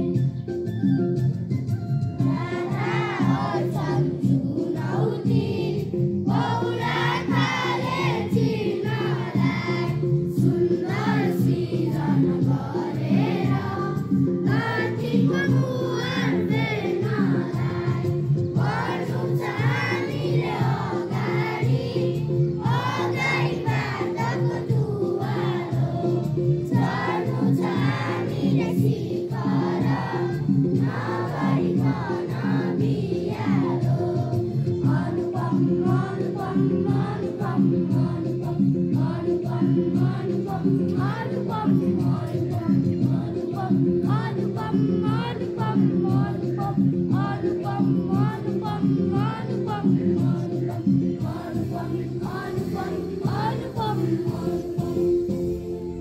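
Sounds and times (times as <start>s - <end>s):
instrumental accompaniment: 0.0s - 56.0s
children singing in chorus: 2.2s - 55.6s.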